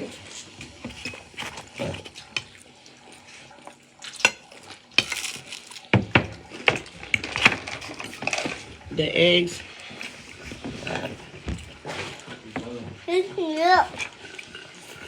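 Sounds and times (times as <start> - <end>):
dishes and cutlery clinking: 0.0 - 3.2, 4.0 - 13.0, 13.8 - 15.0.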